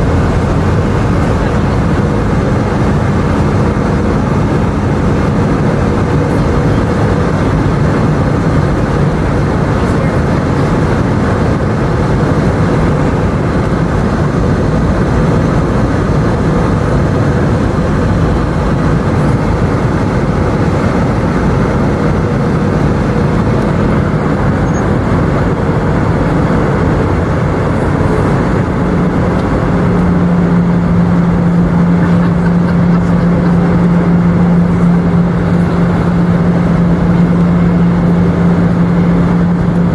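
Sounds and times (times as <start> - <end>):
airliner cabin air rush: 0.0 - 39.9
low engine hum: 0.0 - 39.9.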